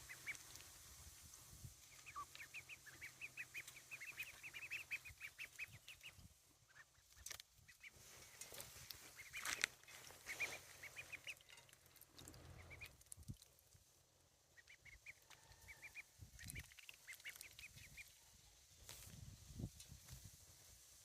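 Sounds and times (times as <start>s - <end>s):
ducks peeping: 0.0s - 1.0s, 1.6s - 18.5s.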